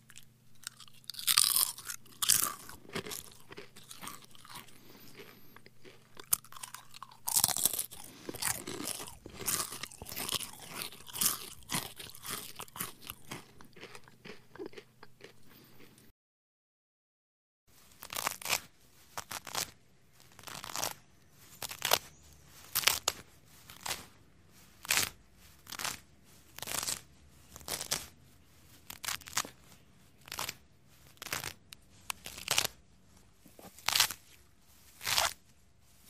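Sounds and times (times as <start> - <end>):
potato chips crunching: 0.0 - 16.0, 17.9 - 32.8, 33.4 - 35.4.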